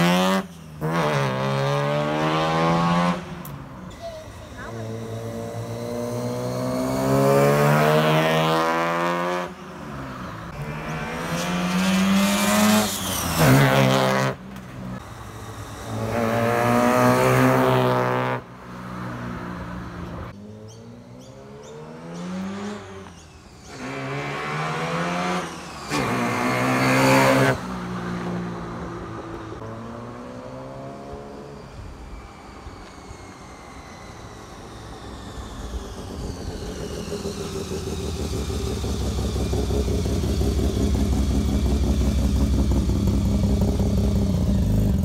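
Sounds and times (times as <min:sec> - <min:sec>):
rotary engine revving: 0:00.0 - 0:45.0.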